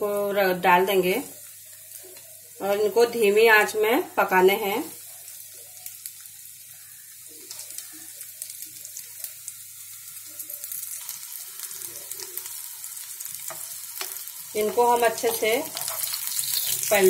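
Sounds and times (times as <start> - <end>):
cutlets sizzling in oil: 0.0 - 17.0.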